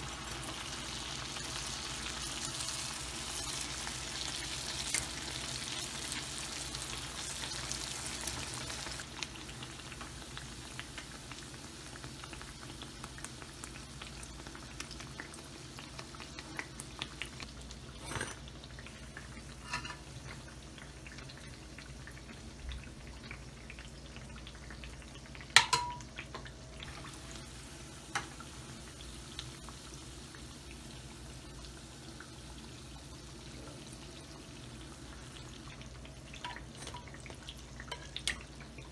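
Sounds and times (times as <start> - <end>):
fritters sizzling in hot oil: 0.0 - 38.9.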